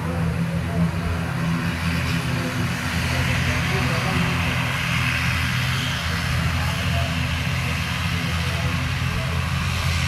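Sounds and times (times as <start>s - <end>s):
turboprop engines running: 0.0s - 10.0s.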